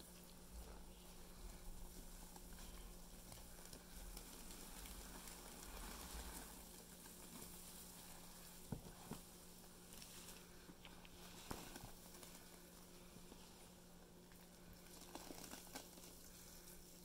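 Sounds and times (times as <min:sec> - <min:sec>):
foam fizzing crackle: 0:00.0 - 0:17.0.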